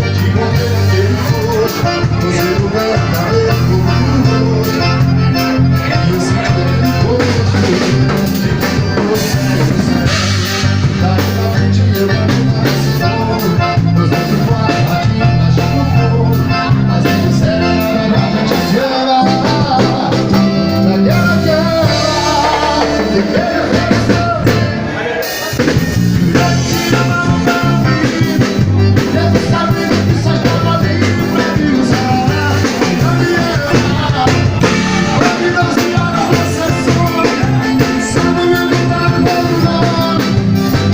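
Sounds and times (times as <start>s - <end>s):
bass guitar: 0.0s - 40.9s
drums: 0.0s - 40.9s
person singing: 0.0s - 40.9s.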